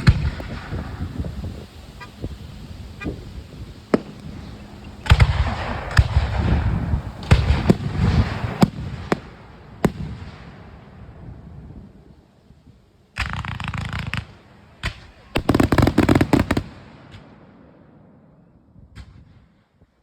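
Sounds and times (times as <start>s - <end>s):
fireworks bursting: 0.0s - 18.2s.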